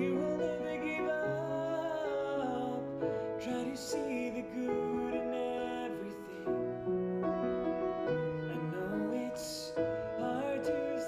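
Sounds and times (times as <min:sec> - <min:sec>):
slow chordal background music: 0:00.0 - 0:11.0.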